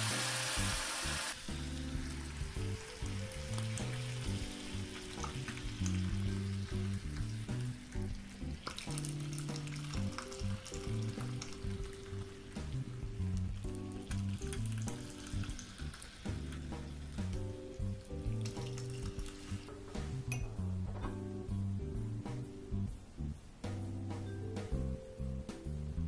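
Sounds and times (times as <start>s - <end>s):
faint crackling hiss: 0.0s - 26.0s
music with held low notes: 0.0s - 26.0s.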